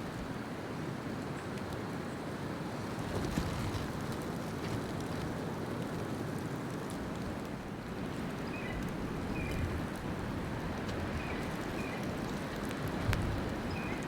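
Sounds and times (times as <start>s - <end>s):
wind blowing across microphone: 2.7s - 14.0s.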